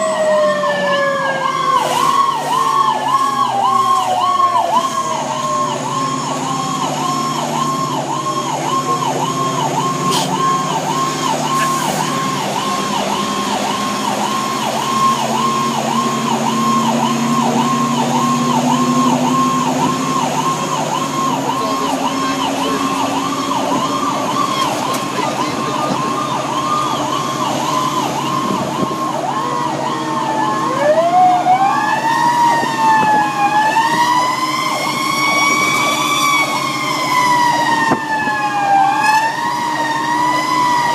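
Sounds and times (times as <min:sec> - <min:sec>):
engine running: 0:00.0 - 0:40.9
fire engine siren: 0:00.0 - 0:40.9.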